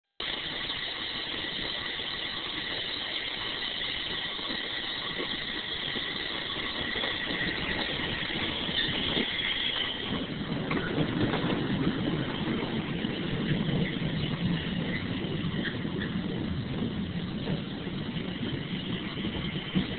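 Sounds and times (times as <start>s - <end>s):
low rumble of rolling car: 0.2s - 19.9s
metallic wheel squeal: 0.4s - 16.4s.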